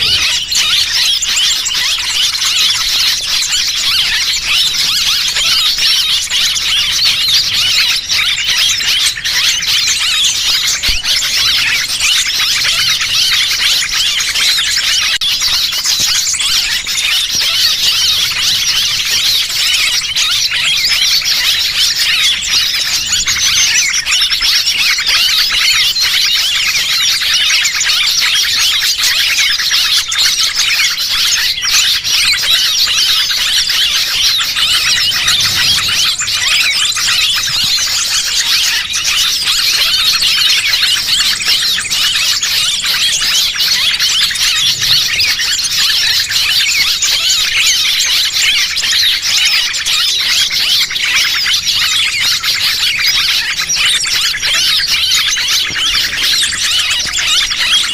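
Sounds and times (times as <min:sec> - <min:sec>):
songbirds chirping: 0:00.0 - 0:57.9.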